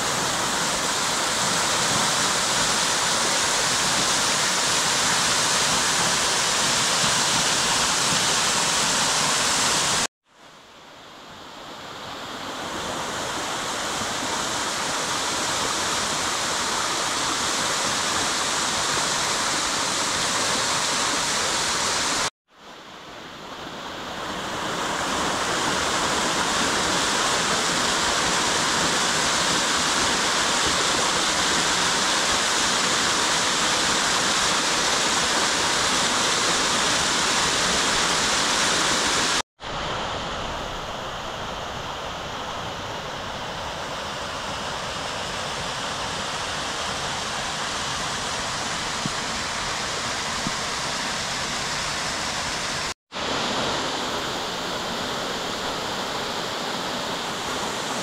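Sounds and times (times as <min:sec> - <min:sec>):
waterfall rushing: 0:00.0 - 0:10.1, 0:12.0 - 0:22.3, 0:23.6 - 0:58.0.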